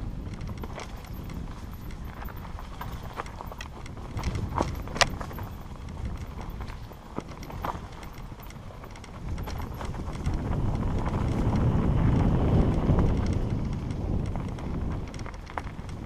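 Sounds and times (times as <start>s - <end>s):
bike rattling and knocking: 0.0s - 16.0s
bike tyres over leaves and roots: 0.0s - 16.0s
wind rush on microphone: 0.0s - 16.0s.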